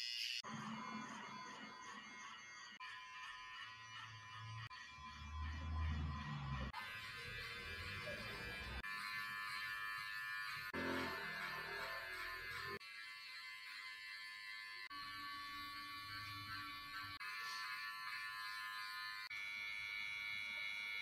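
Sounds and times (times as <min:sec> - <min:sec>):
electric hair trimmer buzzing: 0:00.0 - 0:00.6, 0:01.8 - 0:21.0.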